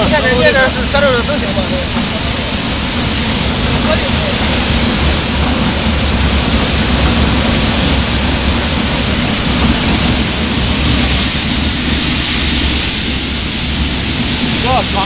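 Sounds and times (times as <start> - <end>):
low machine hum: 0.0 - 15.0
machine rushing hiss: 0.0 - 15.0.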